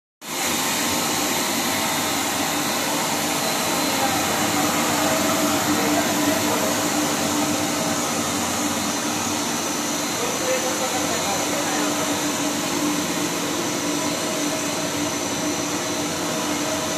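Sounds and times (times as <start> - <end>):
thin high whine: 0.3 - 16.9.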